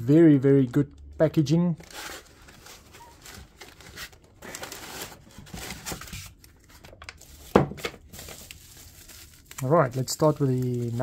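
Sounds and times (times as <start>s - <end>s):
plastic bags rustling: 1.8s - 11.0s.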